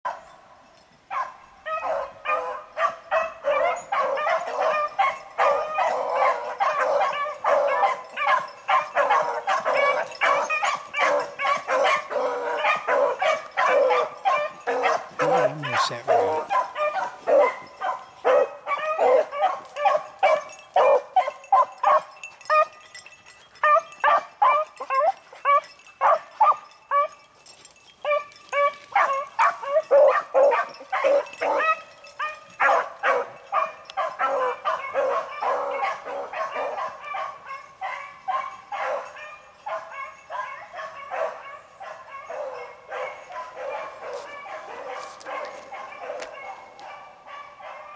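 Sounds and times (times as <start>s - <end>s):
beagles baying: 1.1s - 22.8s, 28.0s - 47.9s.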